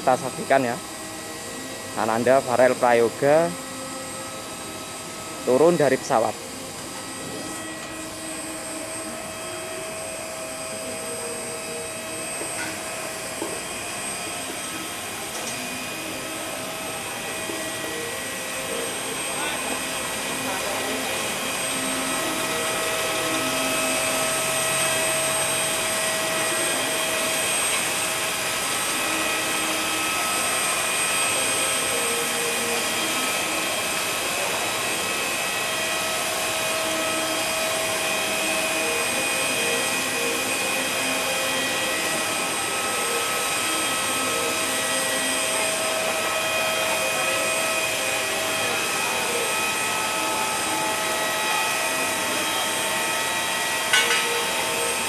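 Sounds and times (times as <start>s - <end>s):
jet auxiliary power unit whine: 0.0s - 55.0s.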